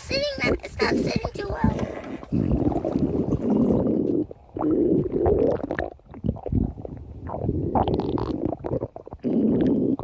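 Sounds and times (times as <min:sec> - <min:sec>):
stomach growling: 0:00.4 - 0:10.0.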